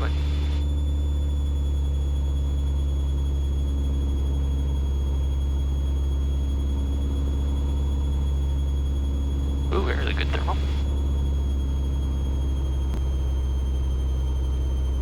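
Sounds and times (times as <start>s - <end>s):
aircraft engine and propeller droning: 0.0s - 15.0s.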